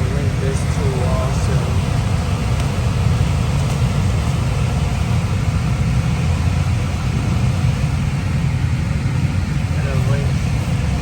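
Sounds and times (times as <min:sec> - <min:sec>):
low rumble of machinery: 0:00.0 - 0:11.0.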